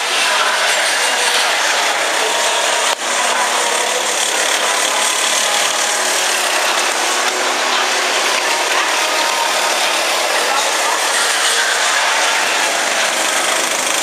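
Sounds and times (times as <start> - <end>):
go-kart engines buzzing: 0.0 - 14.0.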